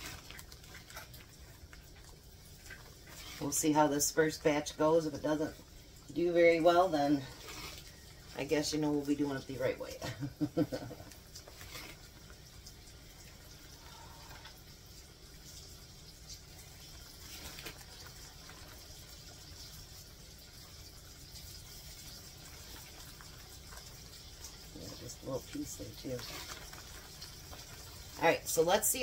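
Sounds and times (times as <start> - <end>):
mushrooms sizzling in hot oil: 0.0 - 29.0.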